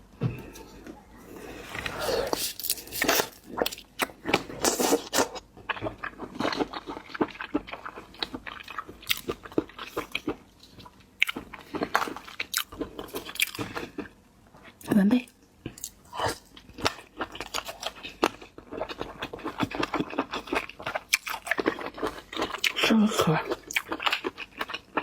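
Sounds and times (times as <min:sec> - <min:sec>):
seafood shells cracking and chewing: 0:02.3 - 0:14.2, 0:15.6 - 0:25.0.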